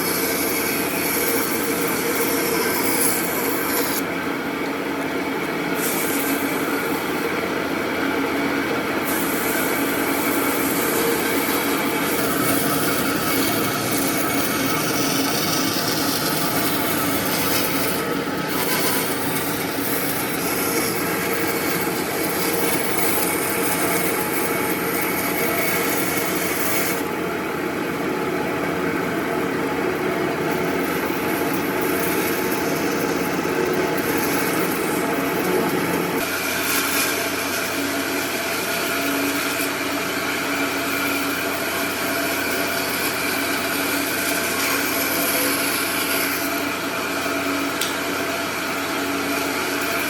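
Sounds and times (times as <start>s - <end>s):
power tool grinding wood: 0.0s - 4.1s, 5.4s - 27.1s, 30.0s - 50.0s.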